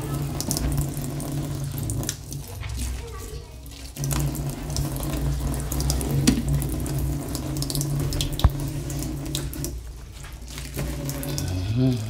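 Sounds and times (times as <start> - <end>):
water running into metal sink: 0.0 - 12.0
water splashing: 0.0 - 12.0.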